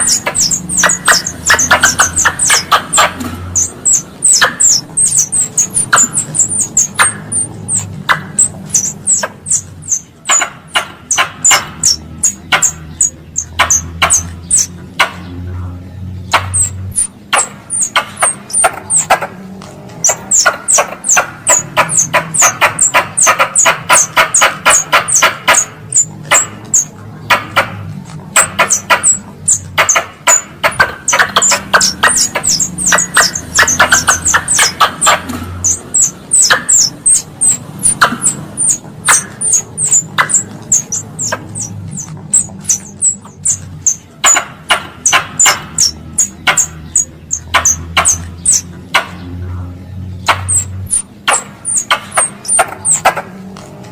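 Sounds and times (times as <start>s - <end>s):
squirrel chattering clicks: 0.0s - 15.5s, 16.2s - 49.4s, 50.2s - 53.3s
squirrel chirps: 0.0s - 15.5s, 16.1s - 49.4s, 50.1s - 53.2s.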